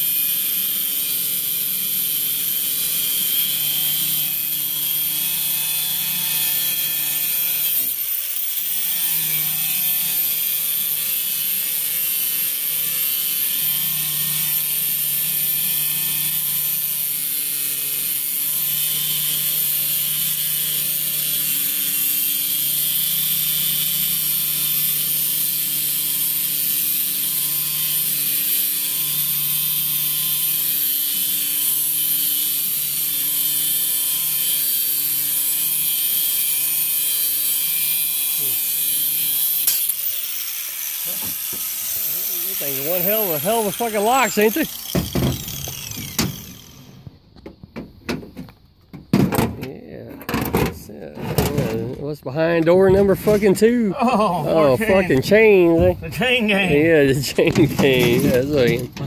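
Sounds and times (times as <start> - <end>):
power tool running: 0.0 - 49.5, 51.3 - 59.0.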